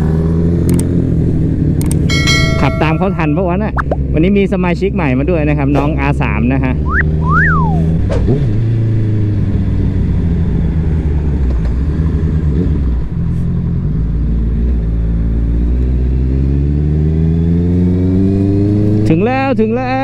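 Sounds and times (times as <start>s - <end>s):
motorcycle engine at low revs: 0.0s - 2.6s, 5.7s - 20.0s
road and wind noise: 0.0s - 20.0s.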